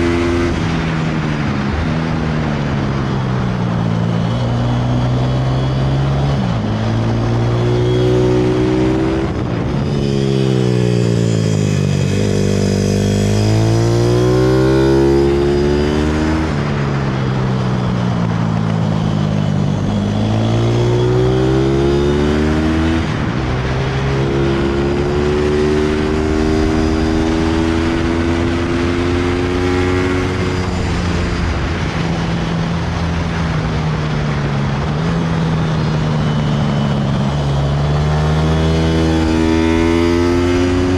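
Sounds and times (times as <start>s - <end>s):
motorbike engine revving: 3.9s - 17.3s, 18.2s - 40.9s.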